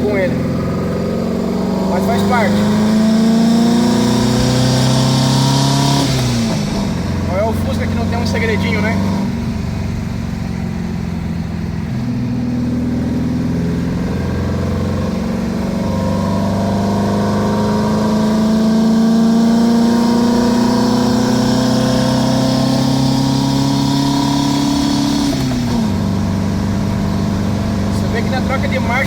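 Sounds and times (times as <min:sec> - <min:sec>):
car engine while driving: 0:00.0 - 0:29.0.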